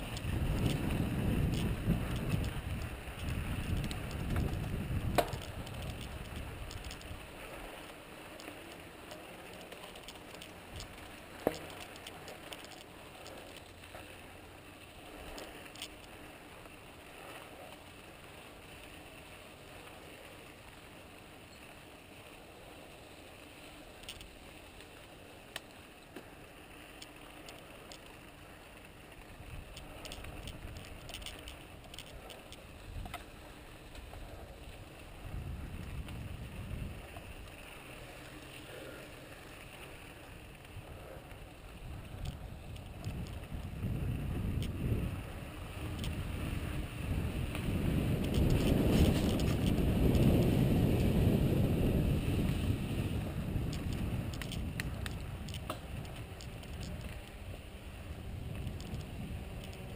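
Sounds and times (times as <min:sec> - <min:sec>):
bike clicks and rattles: 0:00.0 - 0:59.9
bike tyres on dirt: 0:00.0 - 0:59.9.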